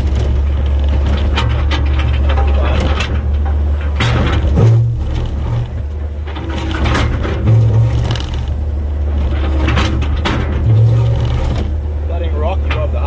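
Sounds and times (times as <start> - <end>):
bucket scraping against rock: 0.0 - 13.0
excavator diesel engine: 0.0 - 13.0.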